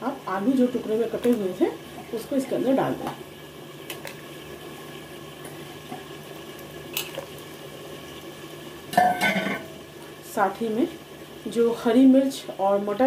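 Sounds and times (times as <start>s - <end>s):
pot of water bubbling: 0.0s - 13.0s.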